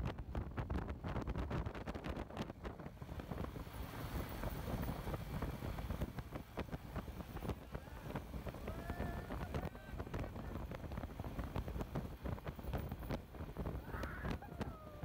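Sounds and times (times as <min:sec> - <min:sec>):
engine and road rumble: 0:00.0 - 0:15.0
wind buffeting microphone: 0:00.0 - 0:15.0.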